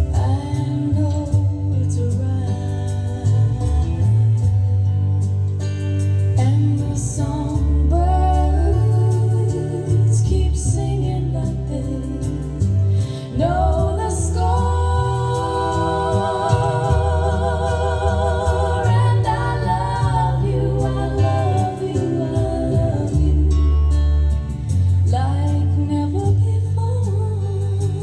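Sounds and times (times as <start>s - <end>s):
woman singing slow ballad: 0.0s - 5.2s, 6.2s - 28.0s
sustained bass notes: 0.0s - 28.0s.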